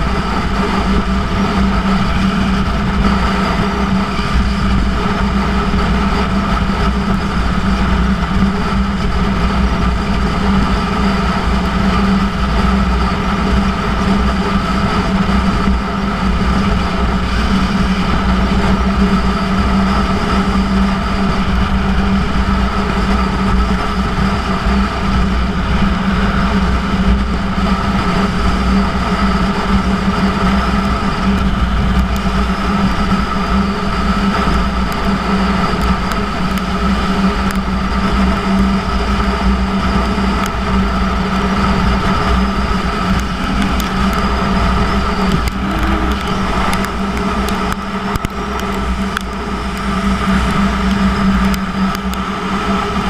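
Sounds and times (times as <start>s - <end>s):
motorcycle engine cruising: 0.0s - 53.0s
wind rush: 0.0s - 53.0s.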